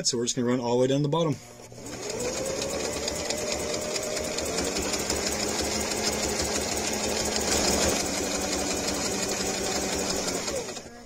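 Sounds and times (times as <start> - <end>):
sewing machine stitching: 1.6 - 11.0.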